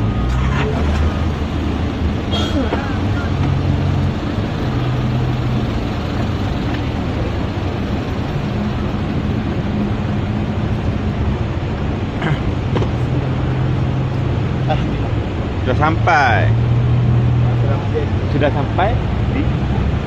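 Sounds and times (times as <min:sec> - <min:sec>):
van engine idling: 0:00.0 - 0:20.0.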